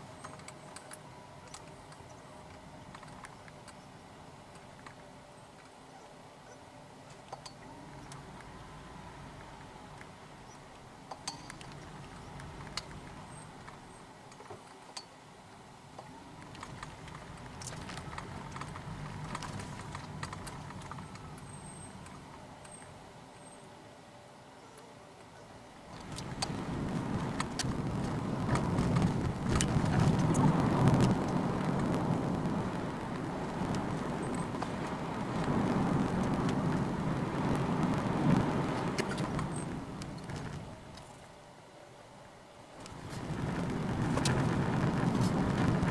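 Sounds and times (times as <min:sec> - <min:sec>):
low road rumble: 0:00.0 - 0:45.9.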